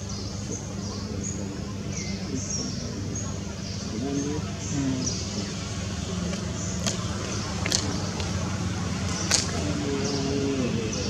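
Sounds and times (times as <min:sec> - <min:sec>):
distant human voices: 0:00.0 - 0:11.0.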